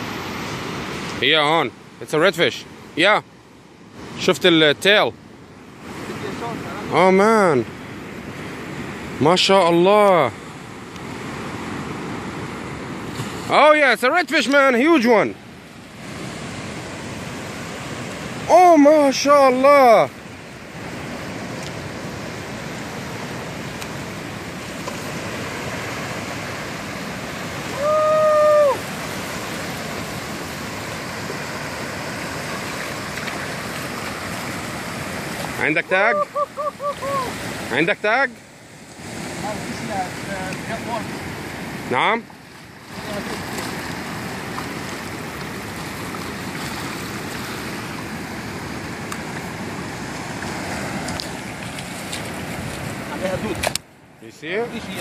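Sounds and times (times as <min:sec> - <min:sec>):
ocean surf washing up beach: 0:00.0 - 0:55.0.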